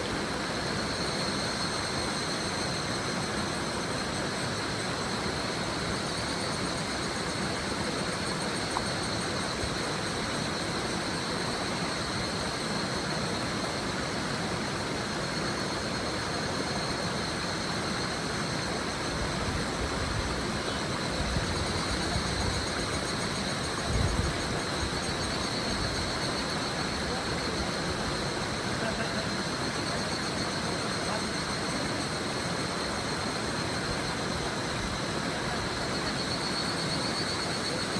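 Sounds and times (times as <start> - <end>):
cicadas calling: 0.0 - 37.9
river running over stones: 3.0 - 37.9.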